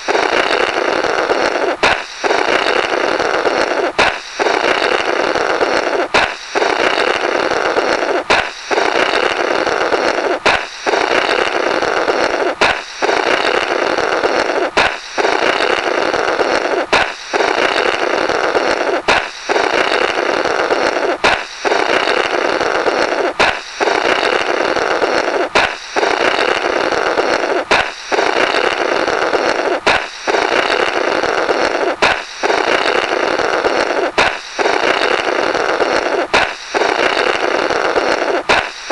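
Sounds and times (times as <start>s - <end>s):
balloon popping: 0.0s - 38.9s
blowing through burst rubber: 0.0s - 38.9s.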